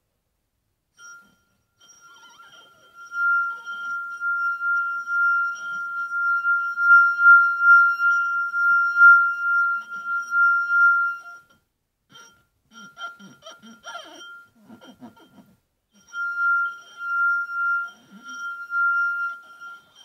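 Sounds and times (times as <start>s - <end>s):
wine glass ringing tone: 1.0s - 15.4s, 16.0s - 20.0s.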